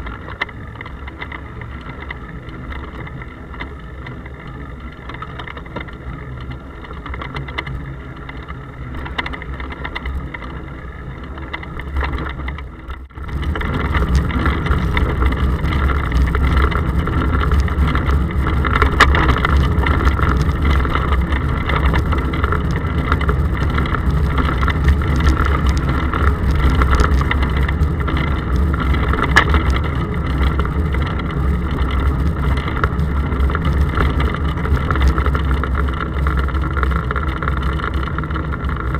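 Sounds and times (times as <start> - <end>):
wind and road rumble: 0.0 - 38.9.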